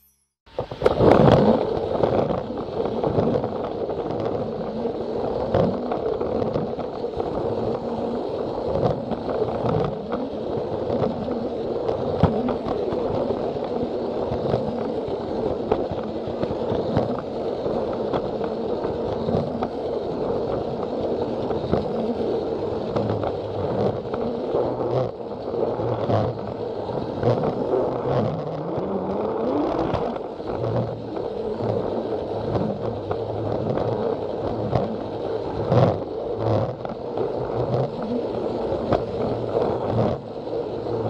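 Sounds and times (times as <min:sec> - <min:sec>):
toy train motor whir: 0:00.5 - 0:41.0
wheels rattling over plastic track: 0:00.5 - 0:41.0.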